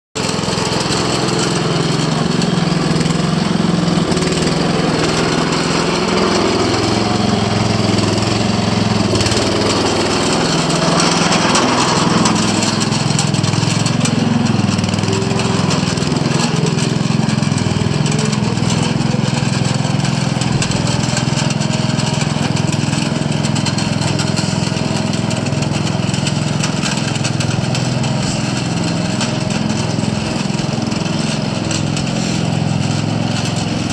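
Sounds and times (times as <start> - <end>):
lawn tractor engine running: 0.2 - 33.9.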